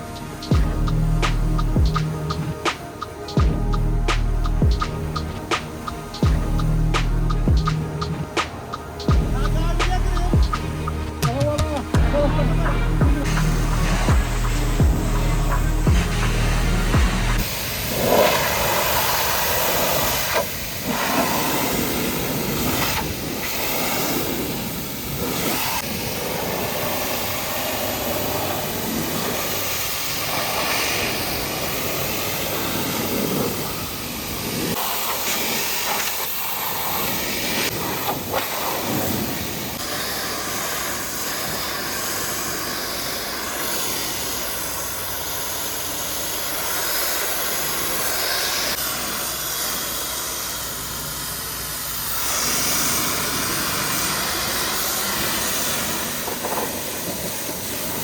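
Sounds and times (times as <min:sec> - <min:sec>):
pressure washer jet spraying: 0:00.0 - 0:58.0.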